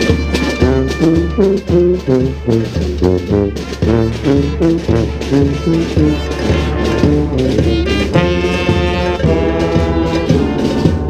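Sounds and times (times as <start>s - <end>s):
brass band horns melody: 0.0s - 11.0s.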